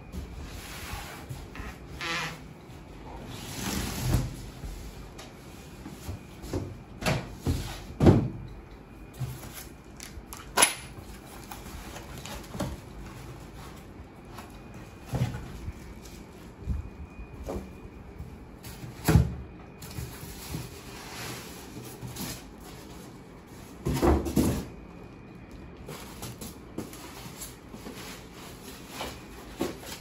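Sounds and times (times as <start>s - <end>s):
cardboard and plastic wrap rustling: 0.0s - 30.0s.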